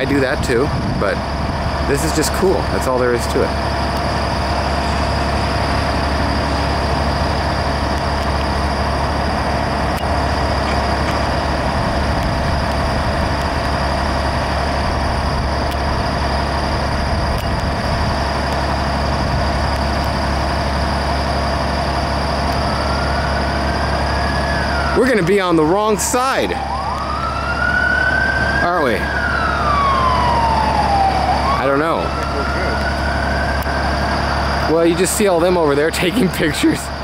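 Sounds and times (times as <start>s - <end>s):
diesel engines idling: 0.0s - 37.0s.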